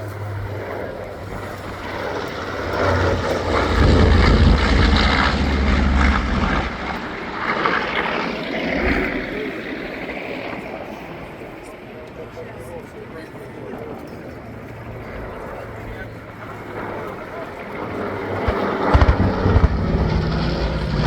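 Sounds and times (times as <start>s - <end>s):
propeller planes flying past: 0.0s - 21.0s.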